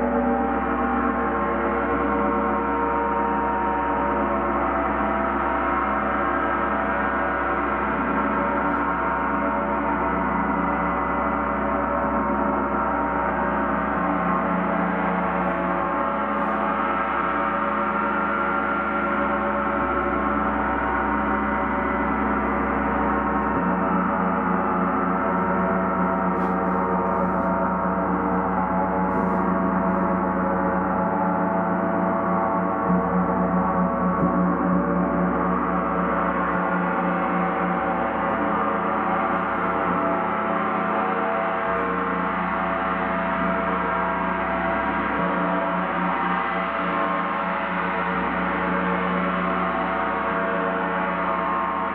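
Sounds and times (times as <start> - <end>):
gong ringing: 0.0 - 51.9.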